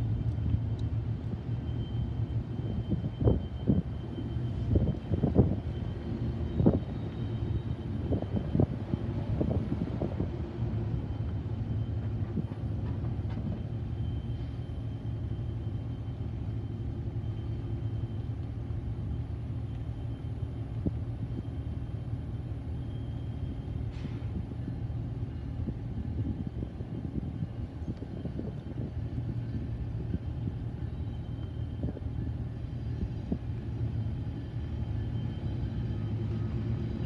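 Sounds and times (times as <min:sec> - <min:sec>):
locomotive diesel engine rumbling: 0:00.0 - 0:37.0.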